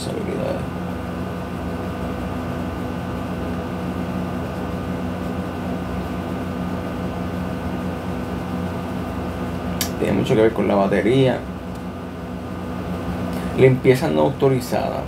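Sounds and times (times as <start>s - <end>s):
appliance mechanical hum: 0.0s - 15.0s.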